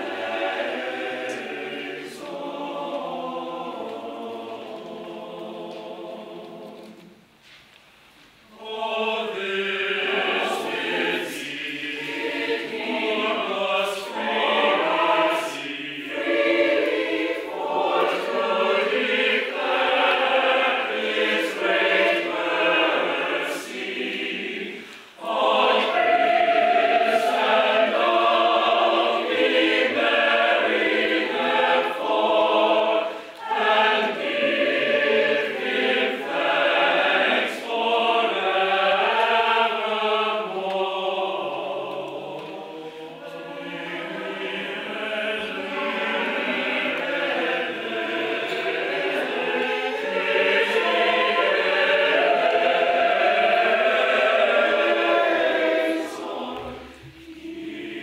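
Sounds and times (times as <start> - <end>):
choir singing a carol: 0.0 - 7.3, 8.4 - 58.0.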